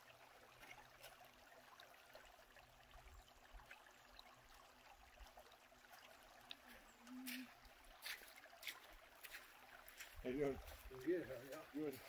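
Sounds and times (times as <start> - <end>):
stream trickling over gravel: 0.0 - 12.0.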